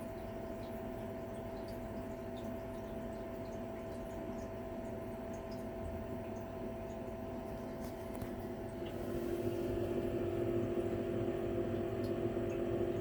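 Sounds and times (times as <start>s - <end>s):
ventilation fan humming: 0.0s - 13.0s.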